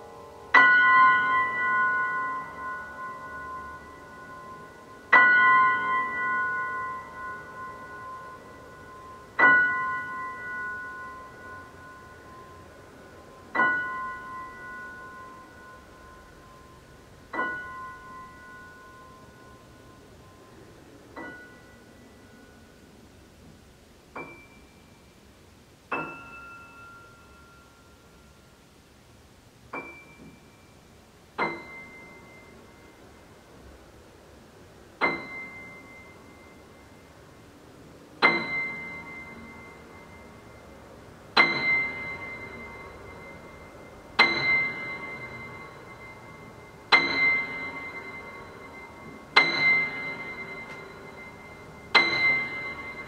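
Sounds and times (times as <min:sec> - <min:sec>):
high piano notes: 0:00.0 - 0:25.2, 0:25.9 - 0:28.8, 0:29.7 - 0:33.5, 0:35.0 - 0:37.4, 0:38.2 - 0:53.0.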